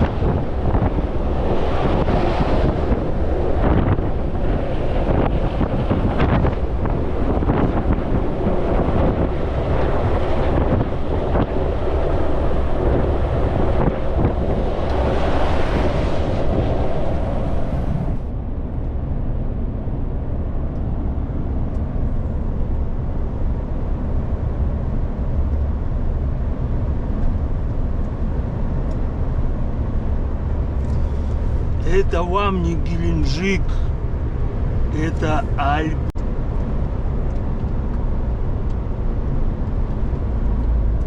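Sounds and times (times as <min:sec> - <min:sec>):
vehicle engine and road rumble: 0:00.0 - 0:41.0
wind rushing over microphone: 0:00.0 - 0:41.0.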